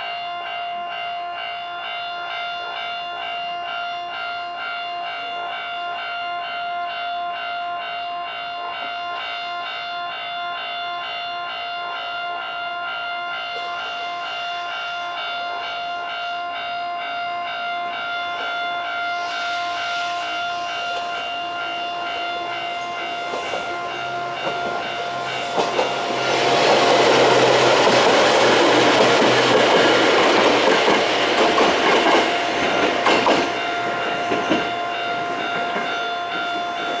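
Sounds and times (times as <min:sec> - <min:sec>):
level crossing warning bell: 0:00.0 - 0:37.0
electric train passing: 0:01.8 - 0:37.0.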